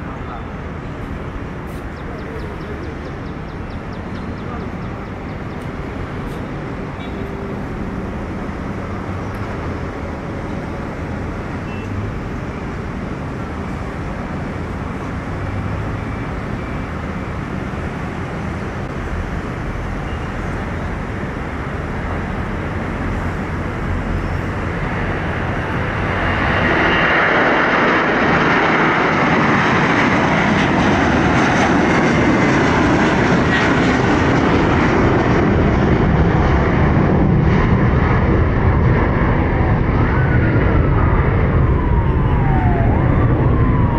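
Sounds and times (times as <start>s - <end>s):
jet engines at takeoff thrust: 0.0s - 43.9s.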